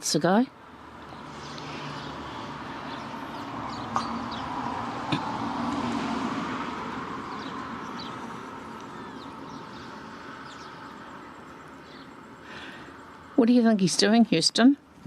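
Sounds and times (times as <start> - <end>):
small birds chirping: 0.0 - 5.9, 6.8 - 15.0
vehicle passing: 0.4 - 13.6.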